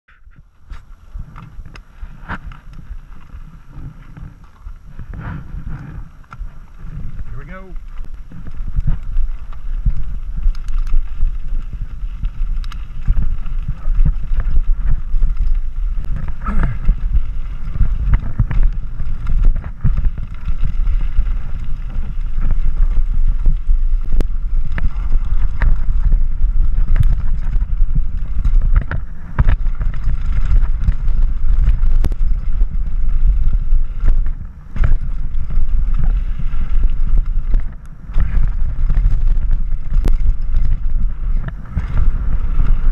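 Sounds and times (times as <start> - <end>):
bike clicks and rattles: 0.1 - 42.9
tyres on gravel: 0.2 - 42.9
wind buffeting microphone: 0.2 - 42.9.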